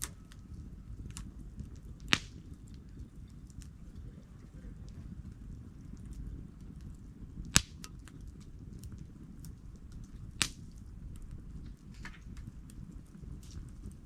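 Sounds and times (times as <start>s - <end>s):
campfire rumble and crackles: 0.0s - 14.0s
loud pops from burning wood: 0.0s - 14.0s.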